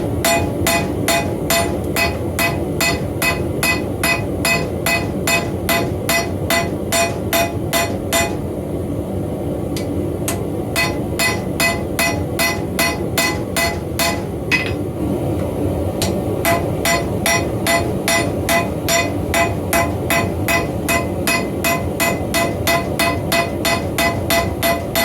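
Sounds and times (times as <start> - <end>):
hammer ringing on anvil: 0.2 - 8.4, 10.3 - 14.8, 16.4 - 25.0.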